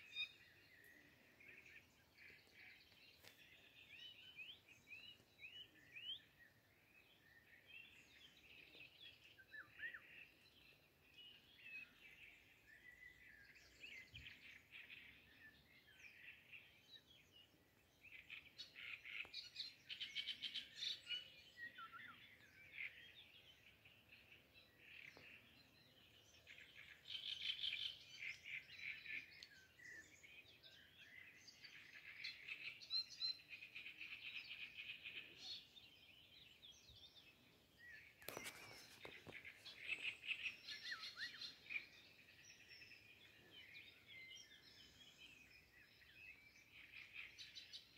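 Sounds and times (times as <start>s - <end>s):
songbirds singing and chirping: 0.0s - 47.9s.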